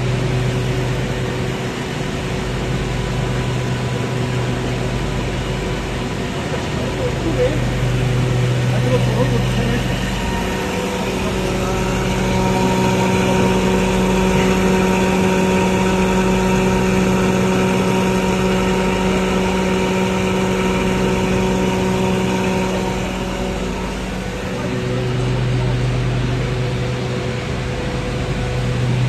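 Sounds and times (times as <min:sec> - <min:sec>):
industrial machinery humming: 0:00.0 - 0:29.0.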